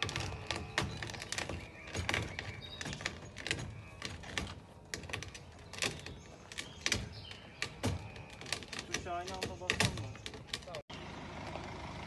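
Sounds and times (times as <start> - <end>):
gravel crunching under wheels: 0.0 - 12.0.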